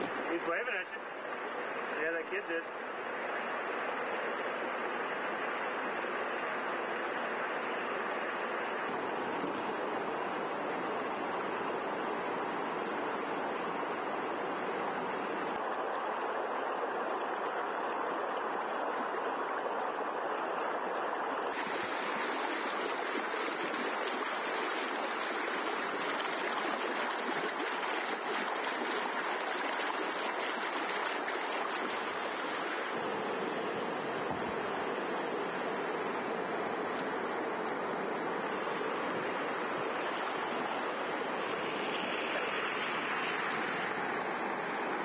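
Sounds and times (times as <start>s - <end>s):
flood water rushing: 0.0s - 45.0s.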